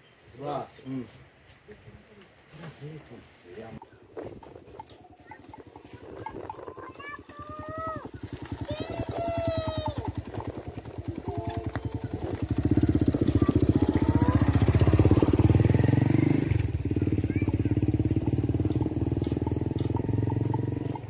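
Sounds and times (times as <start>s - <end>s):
motorcycle engine running: 3.9s - 21.0s.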